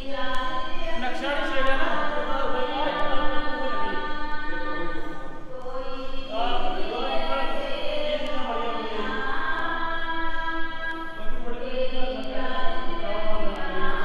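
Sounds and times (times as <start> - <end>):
devotional singing: 0.0 - 14.0
steady held drone: 0.0 - 14.0.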